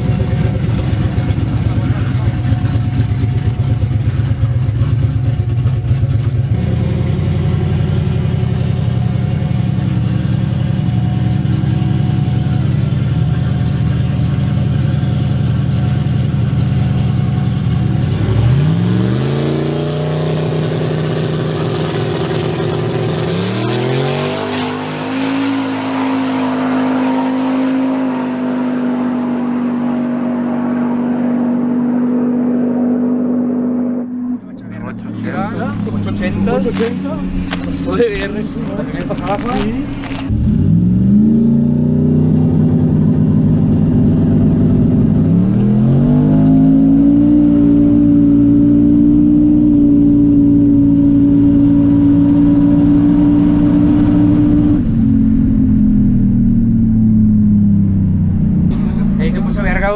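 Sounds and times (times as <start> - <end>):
truck engine accelerating: 0.0 - 59.9.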